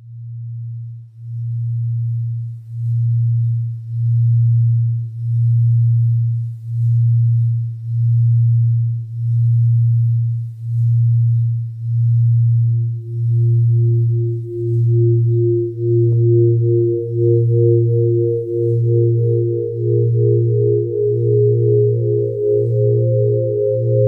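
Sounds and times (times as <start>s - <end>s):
pulsing low electronic tone: 0.0s - 24.0s.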